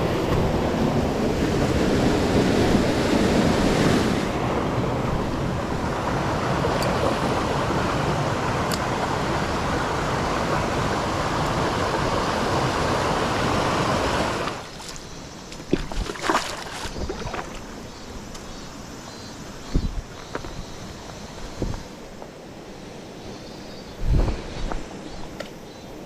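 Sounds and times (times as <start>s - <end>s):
mountain stream rushing: 0.0s - 23.4s.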